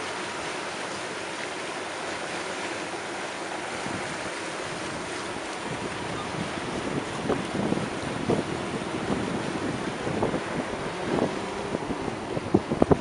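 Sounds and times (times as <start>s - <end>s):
water rushing in boat wake: 0.0s - 13.0s.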